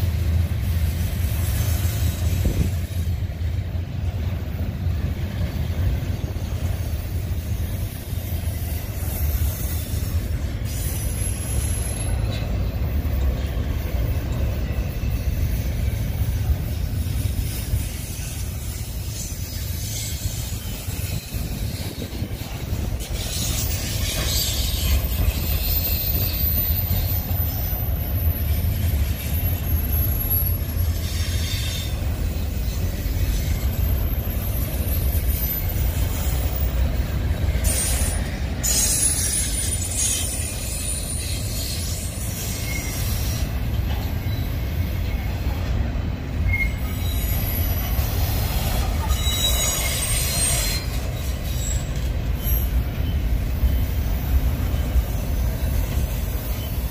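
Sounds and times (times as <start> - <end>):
freight train wheels rumbling on rails: 0.0 - 56.9
high wheel squeals: 5.4 - 56.9.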